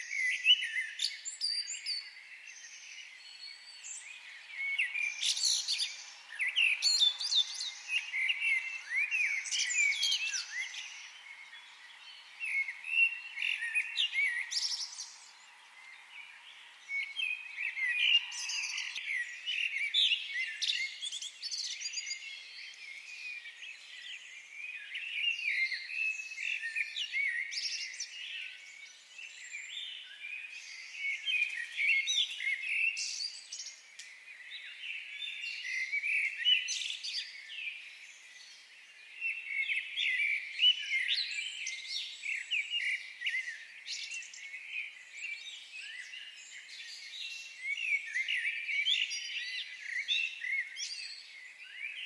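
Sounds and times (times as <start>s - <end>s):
birds singing and chirping: 0.0s - 52.0s.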